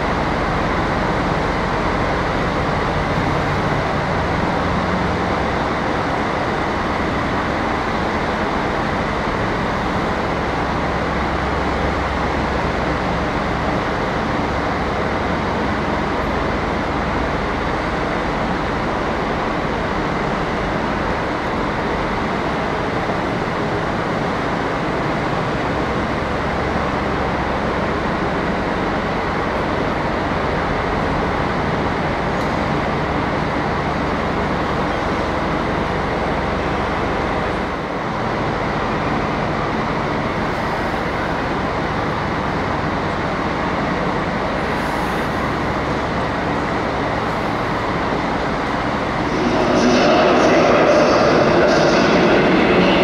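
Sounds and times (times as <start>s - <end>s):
train rumble and hiss: 0.0s - 53.0s.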